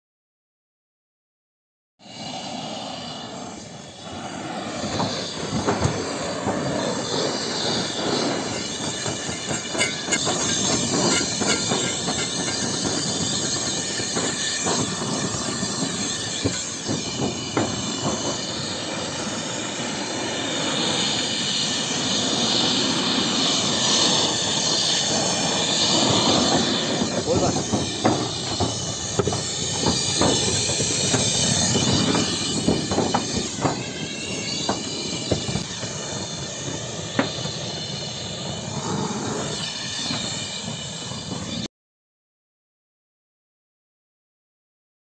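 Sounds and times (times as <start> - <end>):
power tool cutting sheet metal: 2.2 - 41.6.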